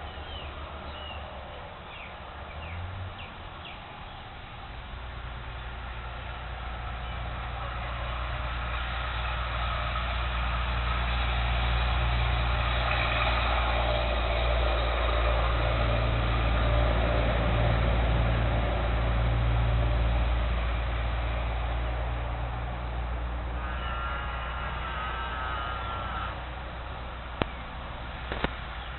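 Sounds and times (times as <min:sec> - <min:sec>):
vehicle engine humming: 0:00.0 - 0:28.9.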